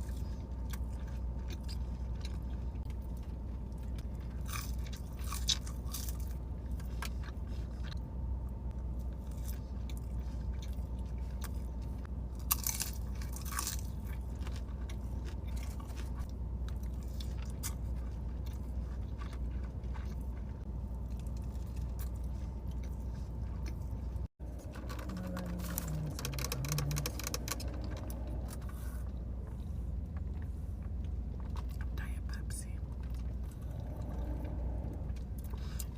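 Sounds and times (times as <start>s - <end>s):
person chewing and crunching food: 0.0s - 35.9s
steady low hum: 0.0s - 35.9s.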